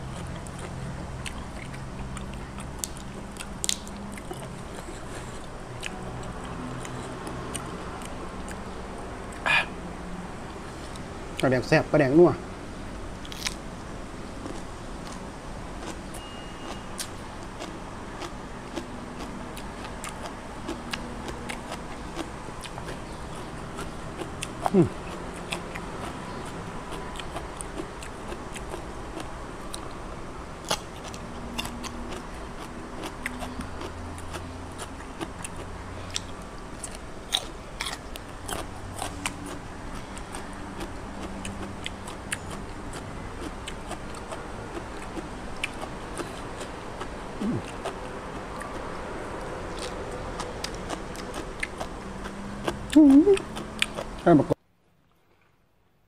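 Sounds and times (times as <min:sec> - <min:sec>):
person chewing: 0:00.0 - 0:09.8, 0:13.2 - 0:13.6, 0:14.4 - 0:30.0, 0:30.6 - 0:54.5.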